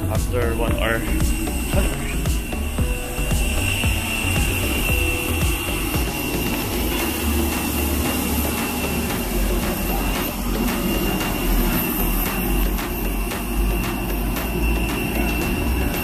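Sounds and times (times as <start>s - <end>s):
aircraft engines rumbling: 0.0s - 16.0s
high engine whine: 0.0s - 16.0s.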